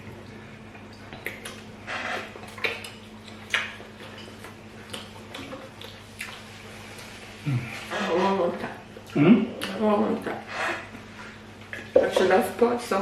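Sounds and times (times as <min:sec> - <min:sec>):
steady low hum: 0:00.0 - 0:13.0
mouth eating noises: 0:00.8 - 0:12.2.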